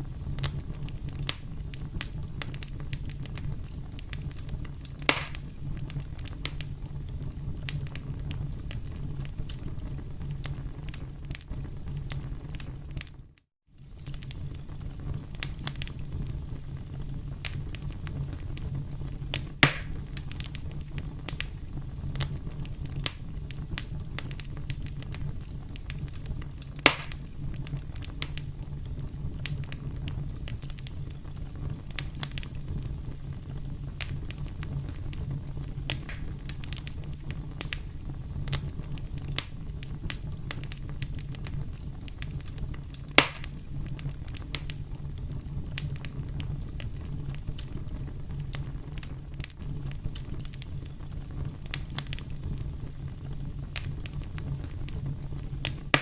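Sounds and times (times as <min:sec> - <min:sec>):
campfire crackling: 0:00.0 - 0:13.2, 0:13.8 - 0:56.0.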